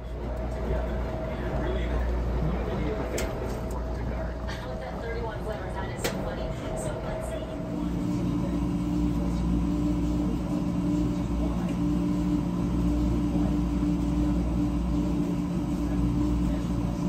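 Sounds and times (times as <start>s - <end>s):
tumble dryers humming: 0.0s - 17.0s.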